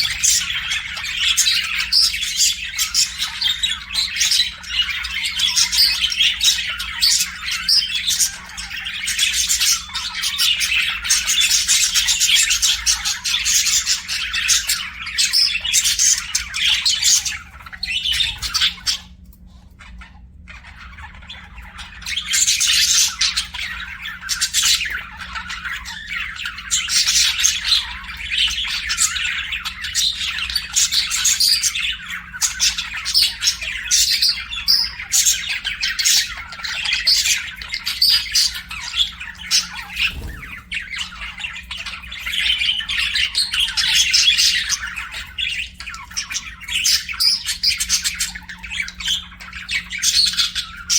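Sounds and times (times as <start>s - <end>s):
budgies warbling and chirping: 0.0s - 50.9s.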